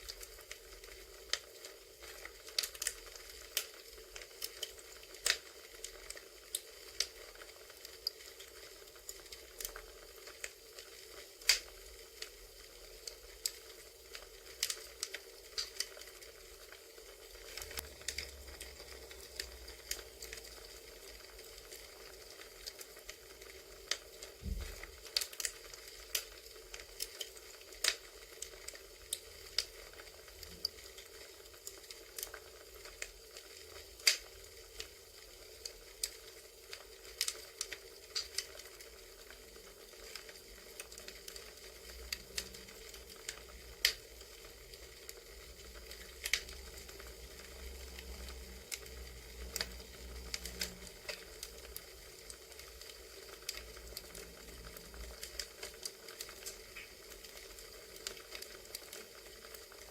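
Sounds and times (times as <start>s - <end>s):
campfire crackling and popping: 0.0s - 59.9s
soft fire hiss: 0.0s - 59.9s.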